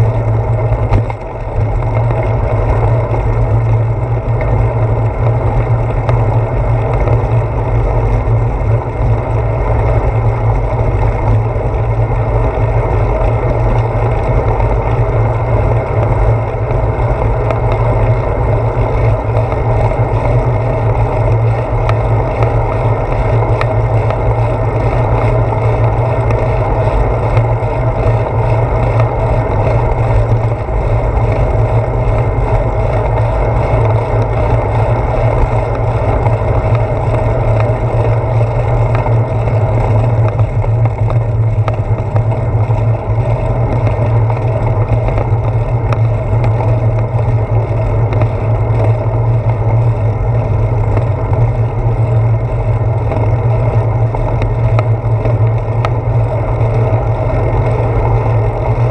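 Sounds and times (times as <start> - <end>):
bicycle tyres rolling on asphalt: 0.0 - 58.9.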